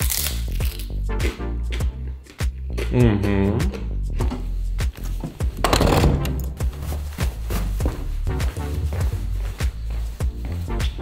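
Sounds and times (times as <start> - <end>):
music with beat and bass: 0.8 - 11.0.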